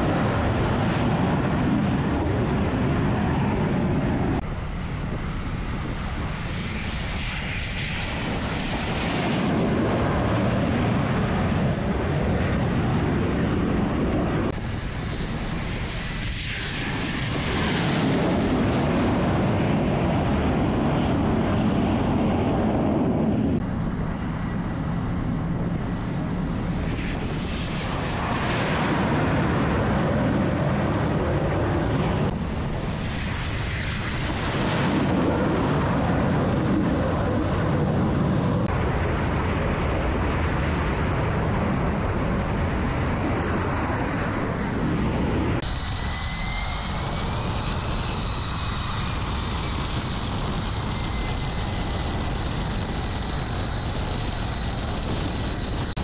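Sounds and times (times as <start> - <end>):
high whining jet engine tones: 0.0 - 56.0
jet engine roar with turbine whine: 0.0 - 56.0.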